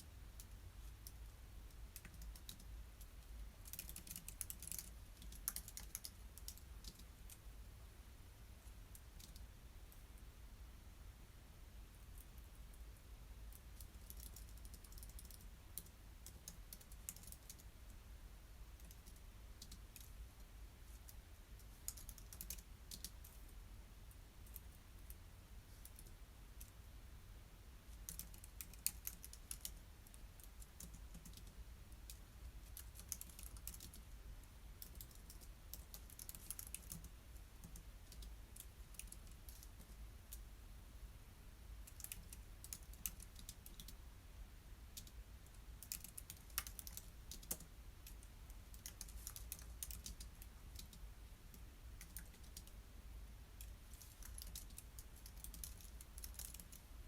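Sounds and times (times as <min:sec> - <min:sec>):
faint keyboard typing: 0:00.0 - 0:07.6, 0:08.5 - 0:10.3, 0:11.9 - 0:18.0, 0:18.6 - 0:26.8, 0:27.8 - 0:40.5, 0:41.8 - 0:44.1, 0:44.8 - 0:57.0.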